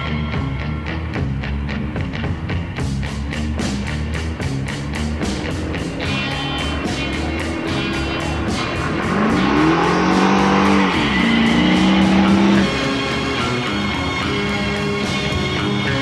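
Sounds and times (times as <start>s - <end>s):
rock music with guitar: 0.0s - 16.0s
car engine accelerating: 3.1s - 16.0s.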